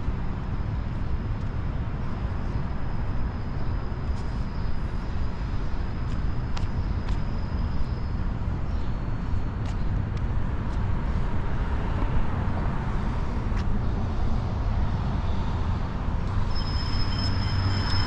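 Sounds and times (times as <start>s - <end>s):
rumble of passing traffic: 0.0s - 18.0s.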